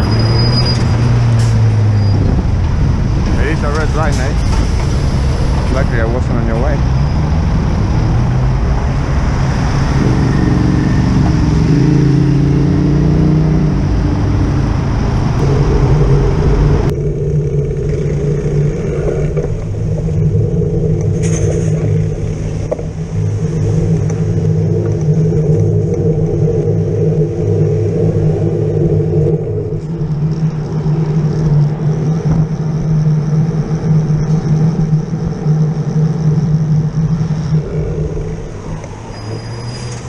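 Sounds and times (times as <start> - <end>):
traffic engines running: 0.0 - 40.0.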